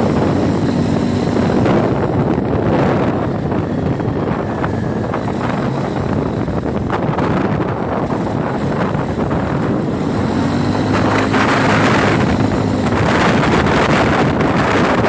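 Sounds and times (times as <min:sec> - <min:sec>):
quad bike engine running: 0:00.0 - 0:15.0
wind buffeting microphone: 0:00.0 - 0:15.0.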